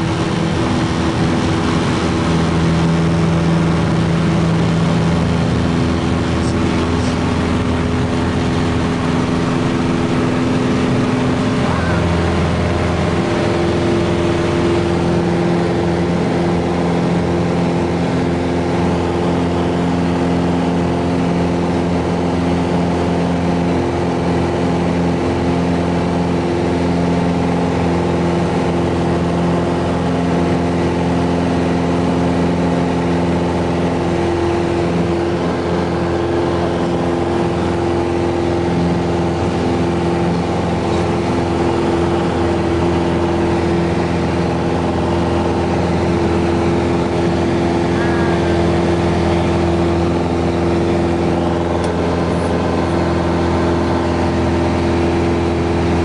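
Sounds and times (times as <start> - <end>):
airplane engine and propeller: 0.0 - 56.0.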